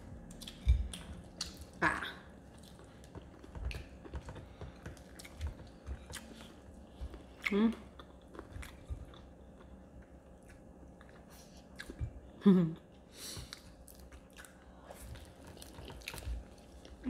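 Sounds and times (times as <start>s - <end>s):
chewing crispy fried chicken: 0.2s - 12.3s, 13.4s - 17.0s.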